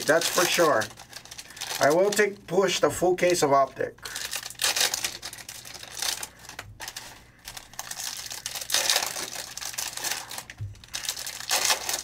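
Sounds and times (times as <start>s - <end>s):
card pack wrappers crinkling: 0.0s - 12.0s.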